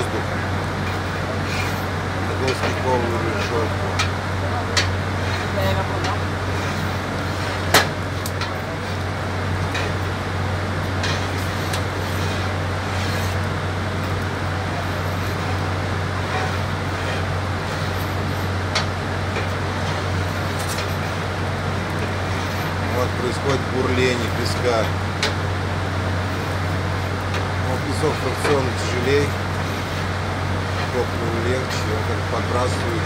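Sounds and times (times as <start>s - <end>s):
boiler machinery droning: 0.0s - 33.0s.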